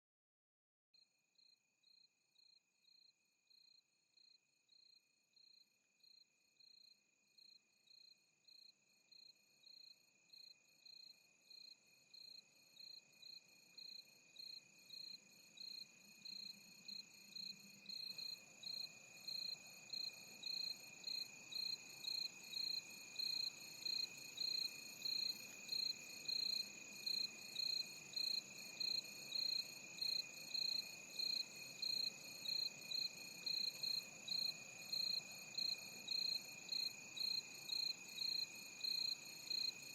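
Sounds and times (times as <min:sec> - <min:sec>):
crickets chirping: 0:01.4 - 0:39.9.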